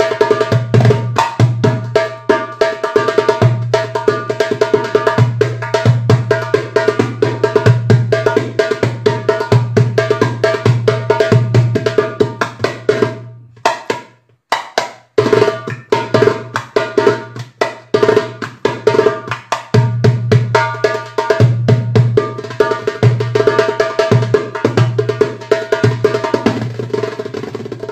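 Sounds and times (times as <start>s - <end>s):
hand drum rhythm: 0.0s - 27.9s.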